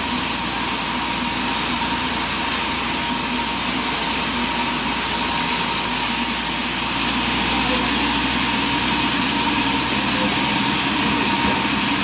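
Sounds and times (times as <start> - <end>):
sawmill running with high whine: 0.0 - 12.0.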